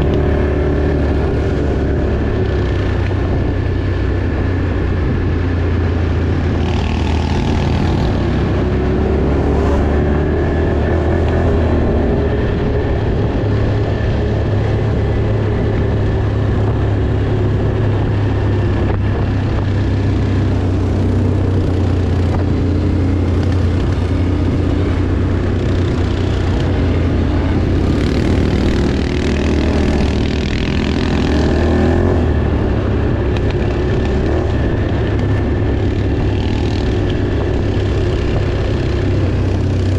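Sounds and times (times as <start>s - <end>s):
off-road vehicle engine drone: 0.0s - 39.9s
steady engine whine: 0.0s - 39.9s.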